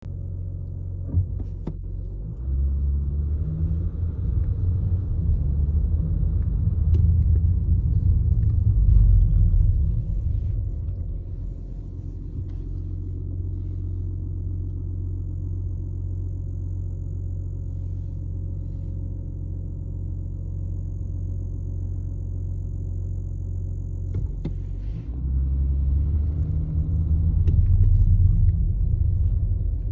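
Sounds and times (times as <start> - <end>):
car engine and road rumble: 0.0 - 29.9.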